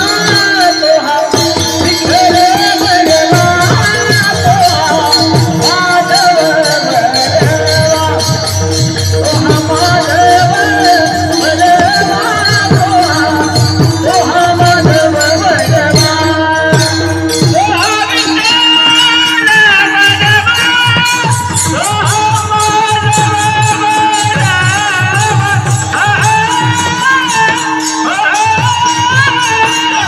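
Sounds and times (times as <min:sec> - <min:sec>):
jingling hand cymbals: 0:00.0 - 0:30.0
voices singing devotional melody: 0:00.0 - 0:30.0.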